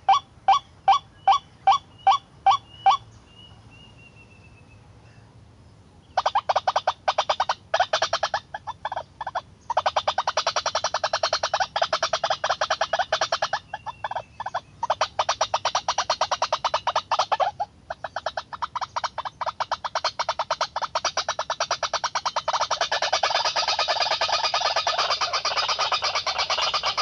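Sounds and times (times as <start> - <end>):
waterhen calling: 0.0 - 3.1, 6.2 - 27.0.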